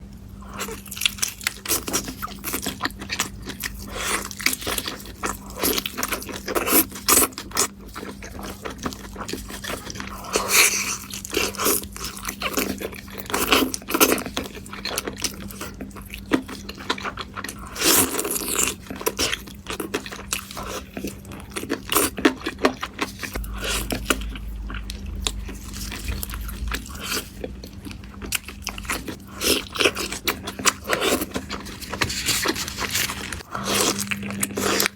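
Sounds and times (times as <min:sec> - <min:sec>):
close chewing and crunching: 0:00.0 - 0:34.9.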